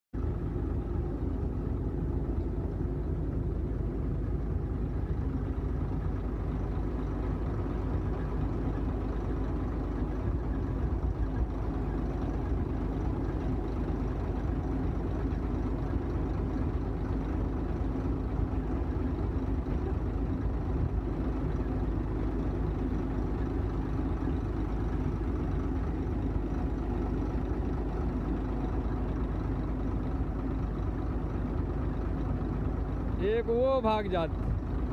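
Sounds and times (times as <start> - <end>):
diesel engine running steadily: 0.2 - 34.9.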